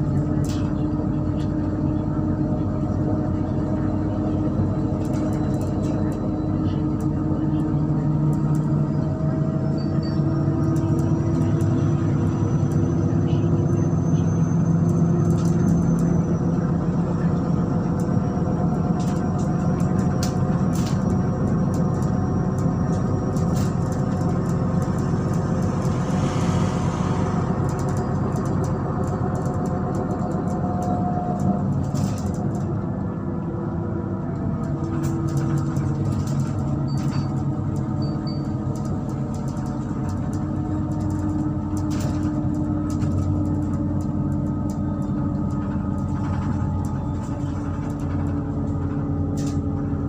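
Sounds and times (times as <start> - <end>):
bus engine running: 0.0 - 50.0.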